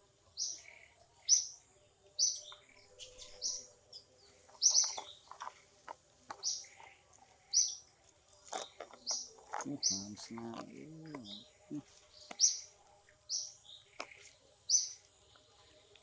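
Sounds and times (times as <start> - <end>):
bird chirping: 0.2 - 5.6, 6.3 - 16.0.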